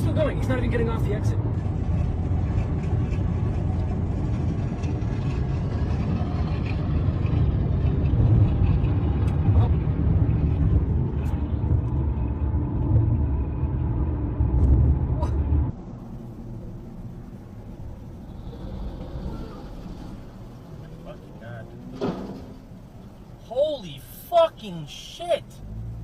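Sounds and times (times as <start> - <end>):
vehicle rumble on road: 0.0 - 26.0.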